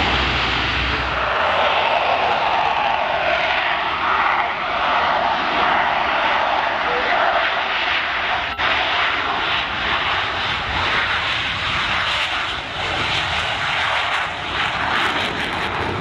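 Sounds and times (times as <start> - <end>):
jet engines at takeoff: 0.0 - 16.0.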